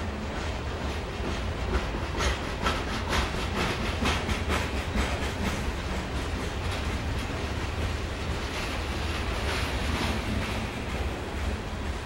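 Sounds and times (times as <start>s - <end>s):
low train rumble: 0.0s - 12.0s
train wheels clacking on rails: 0.0s - 12.0s.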